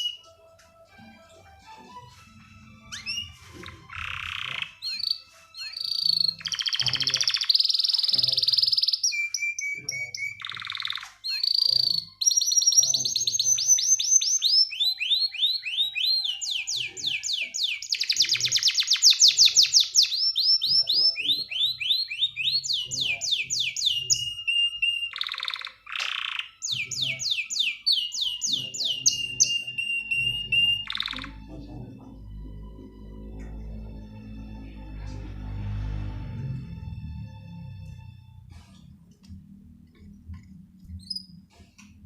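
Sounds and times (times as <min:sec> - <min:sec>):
canary singing trills: 0:00.0 - 0:00.3, 0:02.6 - 0:35.0, 0:40.0 - 0:41.9.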